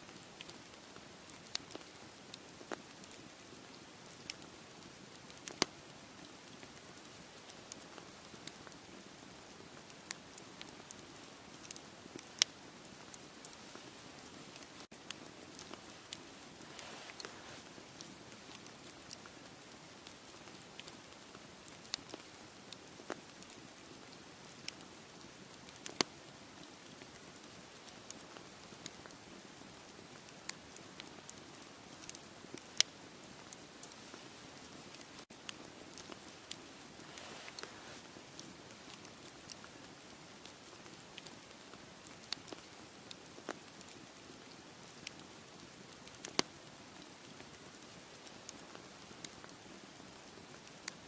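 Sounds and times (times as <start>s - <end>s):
campfire crackling and popping: 0.1s - 51.0s.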